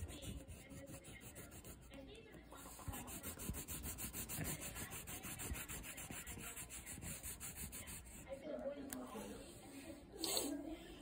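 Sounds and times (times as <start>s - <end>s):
pencil scribbling on paper: 0.0s - 9.3s.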